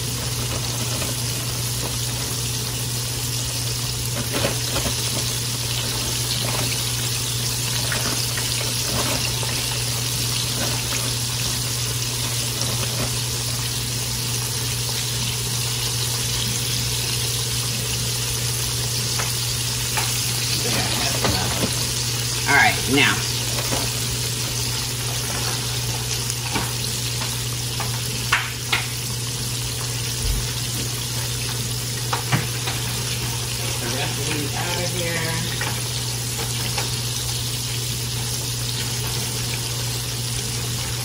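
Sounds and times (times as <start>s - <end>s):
food deep-frying in oil: 0.0s - 41.0s.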